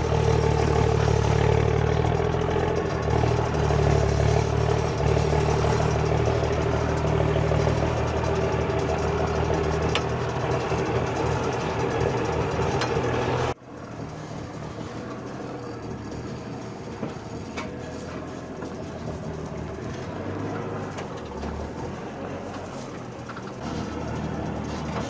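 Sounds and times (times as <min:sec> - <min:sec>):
faint rattles: 0:00.0 - 0:25.0
truck engine running: 0:00.0 - 0:25.0.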